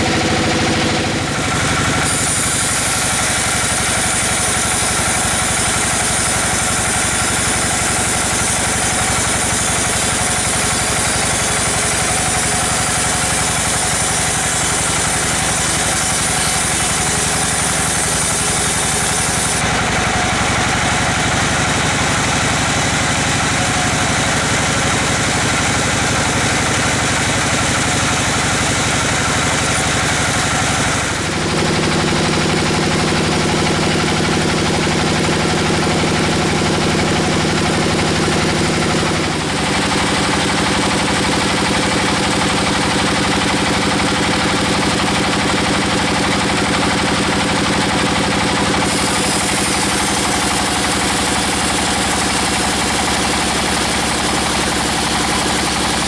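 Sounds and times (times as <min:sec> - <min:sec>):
sawmill bandsaw humming: 0:00.0 - 0:56.0.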